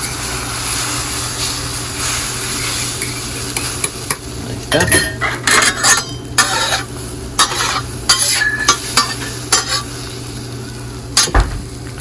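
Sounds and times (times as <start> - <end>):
utensil scraping griddle: 0.0 - 10.2
eggs sizzling in oil: 0.0 - 12.0.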